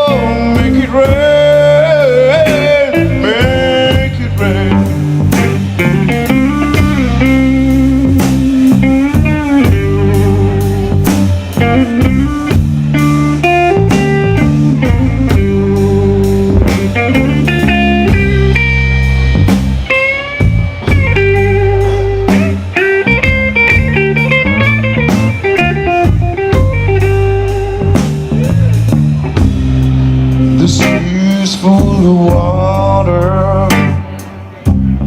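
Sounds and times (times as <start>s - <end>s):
bass guitar: 0.0s - 35.0s
drum kit steady beat: 0.0s - 35.0s
electric guitar lead with bends: 0.0s - 35.0s.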